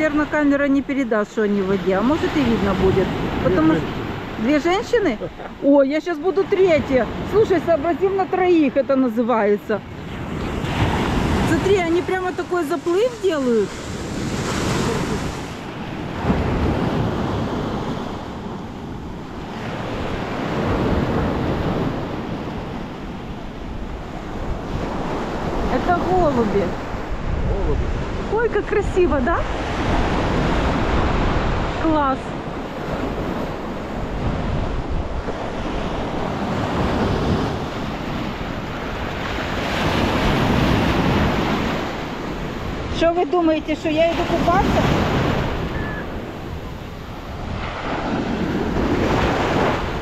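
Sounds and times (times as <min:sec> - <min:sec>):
small waves washing ashore: 0:00.0 - 0:50.0
wind rumbling on microphone: 0:06.2 - 0:50.0.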